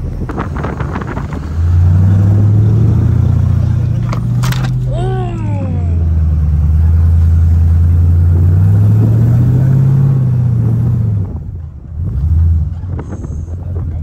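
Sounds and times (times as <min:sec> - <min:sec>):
vehicle engine under load: 0:00.0 - 0:14.0.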